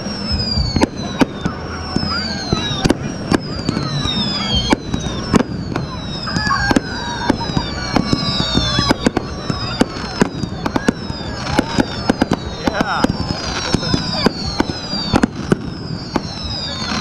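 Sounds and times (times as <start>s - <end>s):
fireworks bangs and crackles: 0.0s - 17.0s
fireworks whistles falling in pitch: 0.0s - 17.0s.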